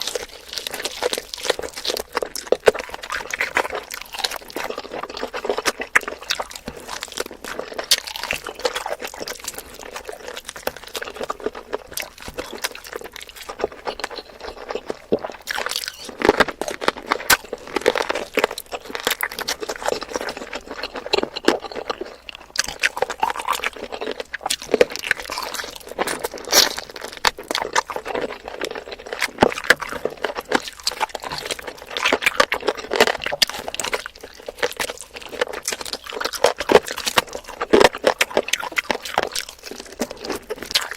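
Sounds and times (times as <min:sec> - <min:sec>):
wet chewing with crunches: 0:00.0 - 0:40.9.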